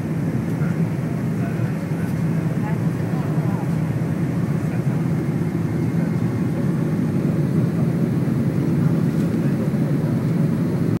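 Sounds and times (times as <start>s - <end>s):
airliner engine rumble in cabin: 0.0s - 11.0s.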